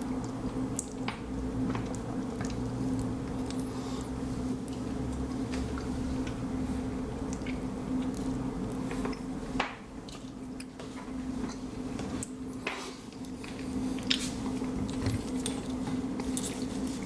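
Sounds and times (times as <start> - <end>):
person chewing juicy fruit: 0.3 - 17.0.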